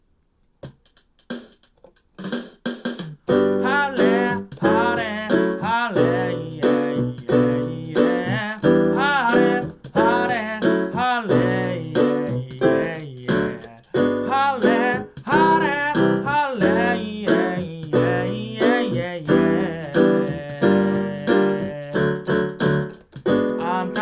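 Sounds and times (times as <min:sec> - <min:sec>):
electronic keyboard pop intro: 0:03.3 - 0:24.0.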